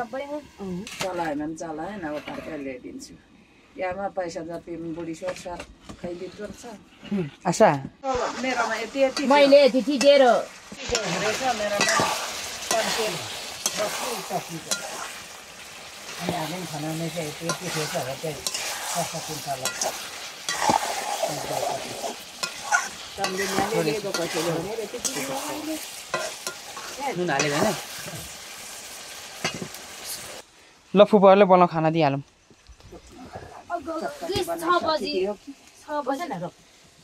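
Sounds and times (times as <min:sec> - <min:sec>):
food sizzling in a pan: 0:00.0 - 0:02.9, 0:04.3 - 0:30.9, 0:33.8 - 0:37.0.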